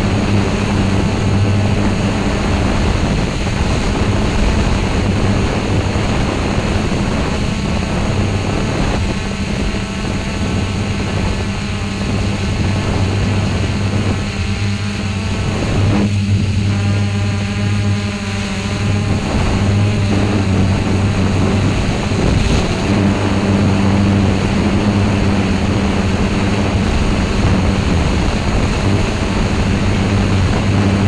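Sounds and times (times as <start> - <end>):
drone motors humming: 0.0 - 31.0.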